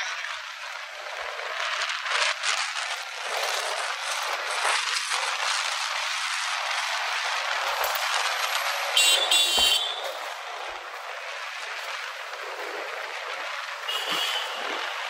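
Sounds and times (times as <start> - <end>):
rushing wind: 0.0 - 15.0
scooter road noise: 0.0 - 15.0.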